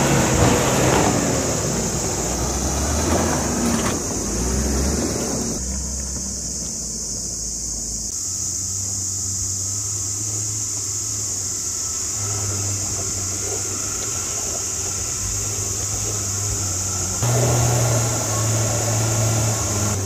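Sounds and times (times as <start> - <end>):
constant hiss: 0.0 - 20.0
off-road vehicle engine drone: 0.0 - 20.0.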